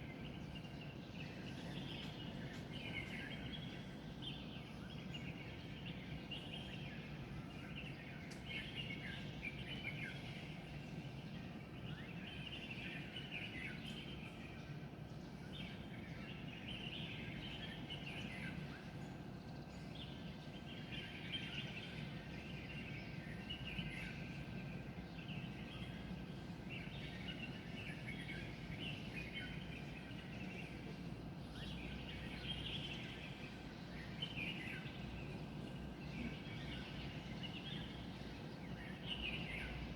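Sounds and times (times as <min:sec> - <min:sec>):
birds chirping and twittering: 0:00.1 - 0:39.9.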